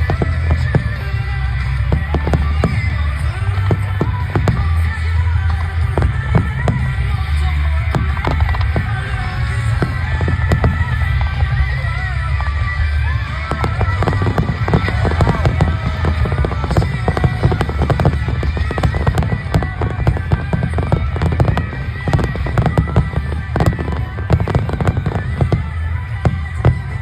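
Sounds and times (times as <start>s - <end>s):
fireworks bangs and crackles: 0.0s - 27.0s
low rumble: 0.0s - 27.0s
music playing: 0.0s - 27.0s.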